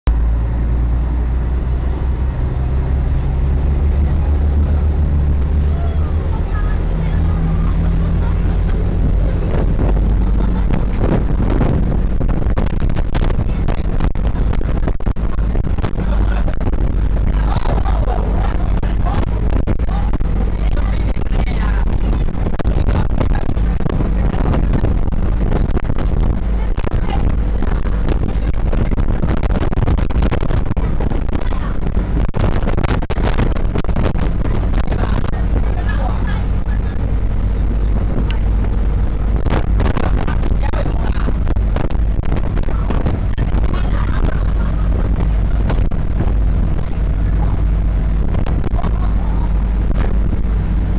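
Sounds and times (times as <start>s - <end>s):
boat engine running: 0.0s - 50.9s
wind buffeting microphone: 0.1s - 50.9s.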